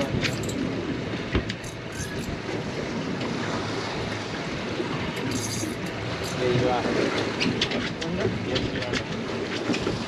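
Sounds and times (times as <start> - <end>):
water sloshing around boat: 0.0 - 10.0.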